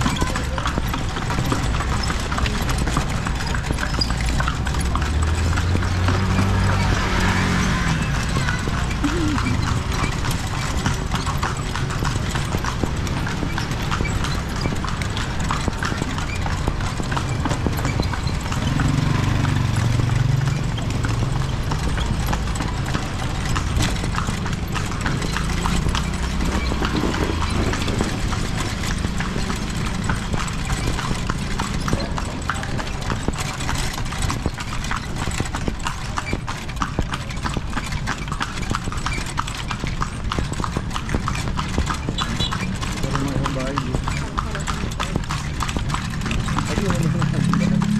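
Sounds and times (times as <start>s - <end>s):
horse hooves clip-clopping: 0.0s - 47.9s.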